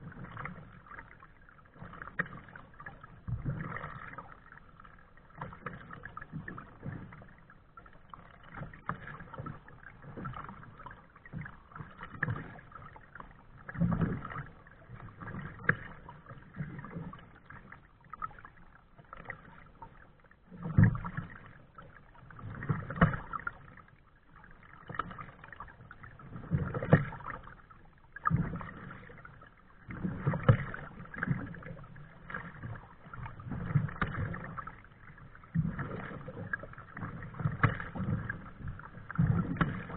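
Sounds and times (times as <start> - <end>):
paddle splashing water: 0.0 - 39.9.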